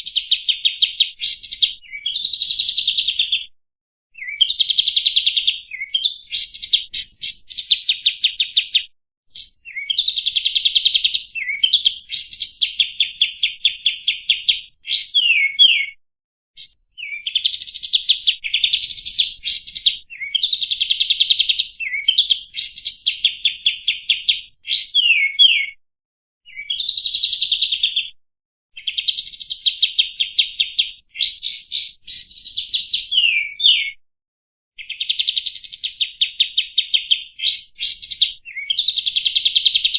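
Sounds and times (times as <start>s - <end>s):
songbird trilling: 0.0s - 3.4s, 4.2s - 15.9s, 16.6s - 25.8s, 28.8s - 34.0s, 34.8s - 39.9s.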